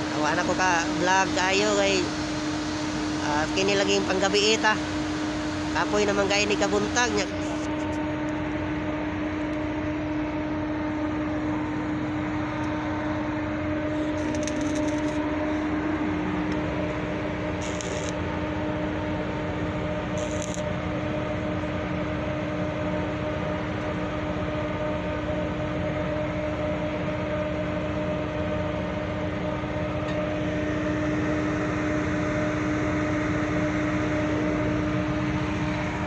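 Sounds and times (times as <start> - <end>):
construction machinery drone: 0.0 - 36.0.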